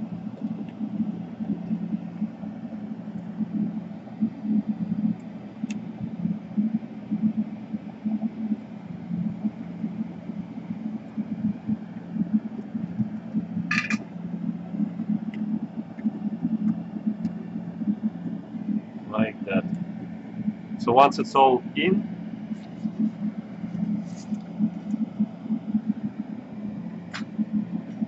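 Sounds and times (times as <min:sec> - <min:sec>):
machine humming and rumbling: 0:00.0 - 0:28.0.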